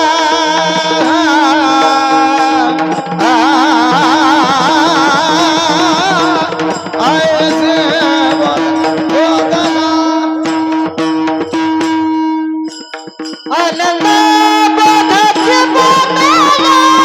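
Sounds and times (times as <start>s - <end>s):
man singing devotional melody: 0.0s - 12.3s, 13.3s - 17.0s
percussion strikes: 0.0s - 17.0s.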